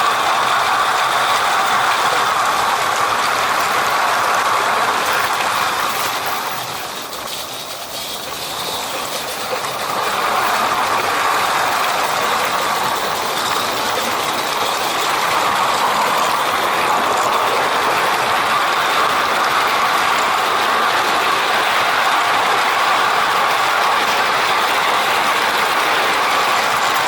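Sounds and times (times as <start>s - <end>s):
model train wheels clattering: 0.0s - 27.0s.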